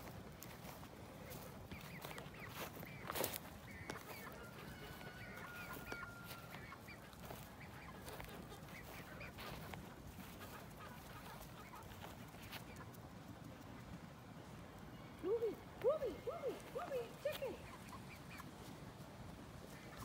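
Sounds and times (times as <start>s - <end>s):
hens clucking: 0.0s - 14.1s, 15.2s - 20.0s.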